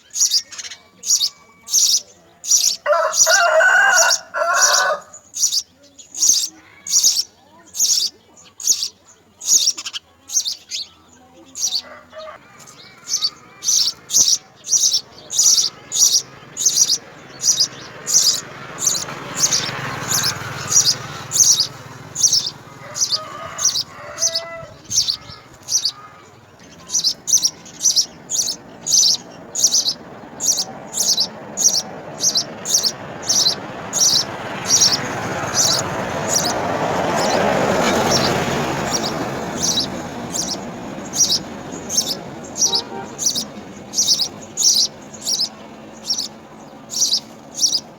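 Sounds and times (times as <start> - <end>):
sparrow chirping: 0.0 - 47.9.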